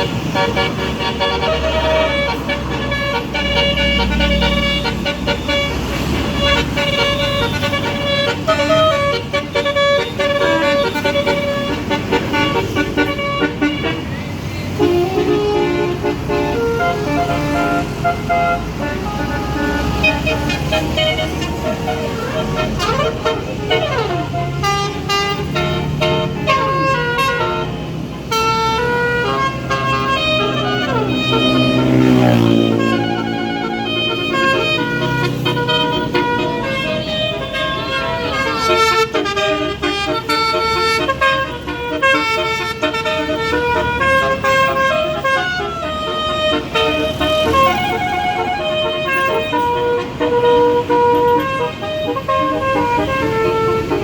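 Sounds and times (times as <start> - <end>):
bus engine hum: 0.0 - 54.0
musical air horn melody: 0.0 - 54.0.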